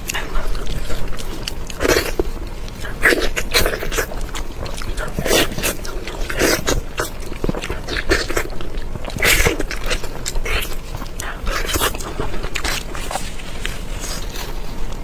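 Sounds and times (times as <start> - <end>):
person chewing crunchy food: 0.0 - 15.0
wet mouth sounds: 0.0 - 15.0.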